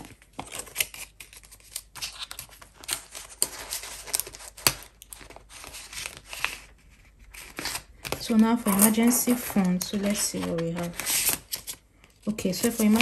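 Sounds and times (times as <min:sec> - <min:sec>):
banknotes and plastic rustling: 0:00.0 - 0:13.0.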